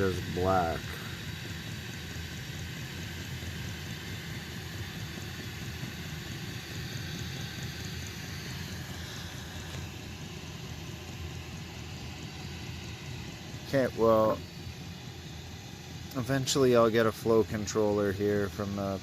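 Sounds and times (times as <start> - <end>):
heater burner and fan rushing: 0.0 - 19.0.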